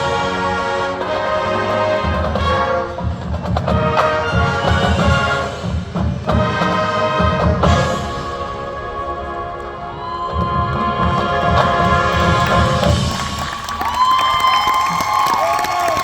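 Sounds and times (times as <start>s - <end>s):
brass chords: 0.0s - 13.7s.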